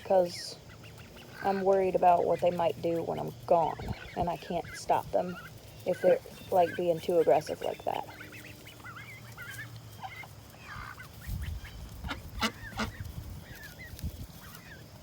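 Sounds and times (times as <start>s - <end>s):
adult ducks calling softly: 0.0s - 15.0s
ducklings peeping: 0.0s - 15.0s.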